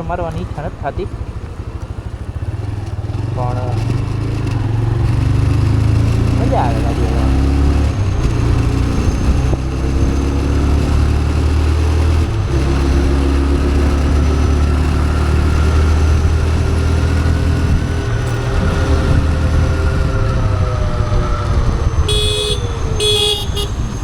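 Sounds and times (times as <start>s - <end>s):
motorcycle engine running: 0.0s - 24.0s
wind rumble on microphone: 3.8s - 11.0s, 11.7s - 24.0s.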